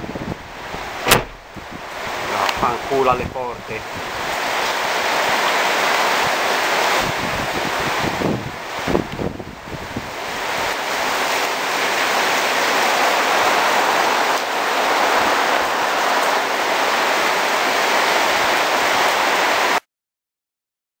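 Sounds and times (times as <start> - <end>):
torrential rain pouring: 0.0 - 19.8.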